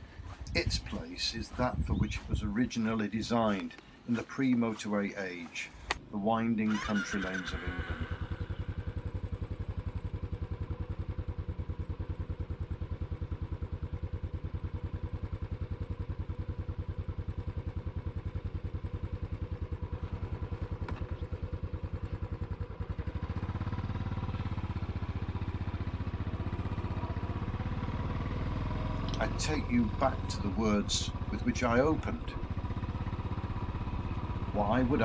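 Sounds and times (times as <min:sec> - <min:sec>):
motorcycle engine idling: 0:00.0 - 0:35.0
motorcycle revving and pulling away: 0:00.0 - 0:35.0.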